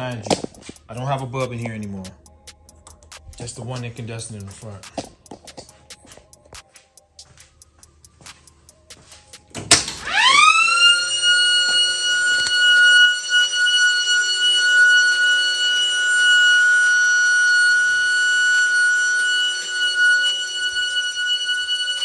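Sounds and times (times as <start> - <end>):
car alarm siren steady high tone: 0.0 - 5.0, 6.6 - 22.0.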